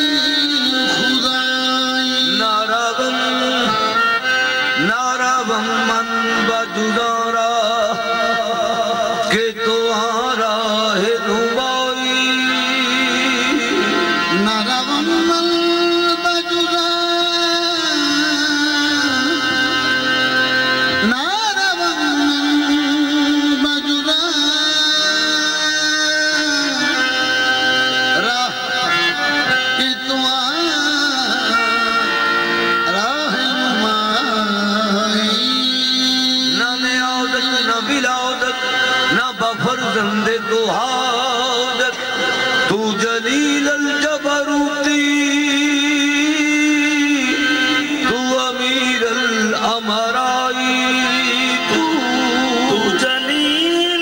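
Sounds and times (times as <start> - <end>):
harmonium held notes: 0.0 - 54.0
man singing ornamented melody: 0.0 - 54.0.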